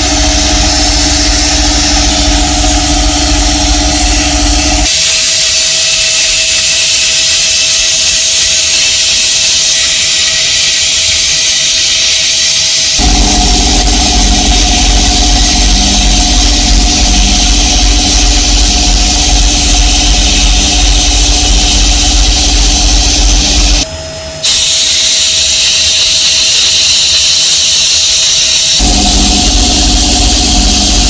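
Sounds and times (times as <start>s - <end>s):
loud hiss: 0.0s - 31.0s
workshop machine motor hum: 0.0s - 31.0s.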